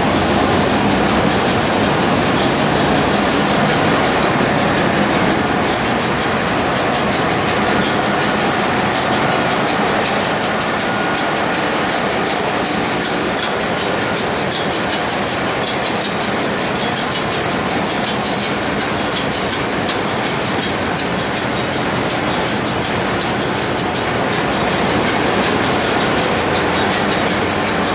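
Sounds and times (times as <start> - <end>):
engine room machinery din: 0.0 - 27.9
fast regular ticking: 1.7 - 27.9.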